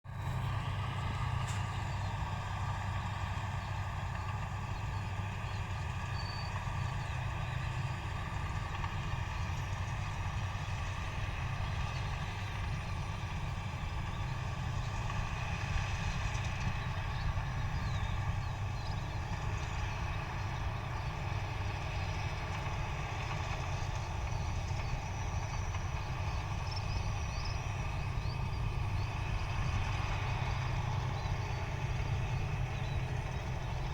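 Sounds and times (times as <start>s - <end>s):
diesel engine droning: 0.0s - 33.9s.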